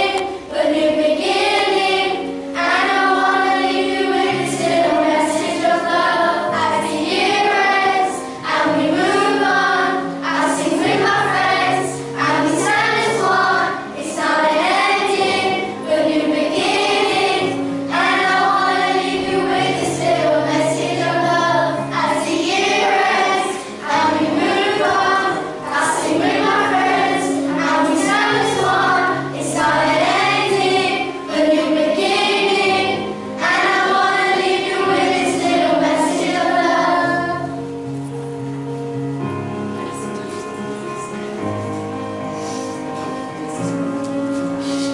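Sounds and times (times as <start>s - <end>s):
children's choir singing: 0.0s - 37.8s.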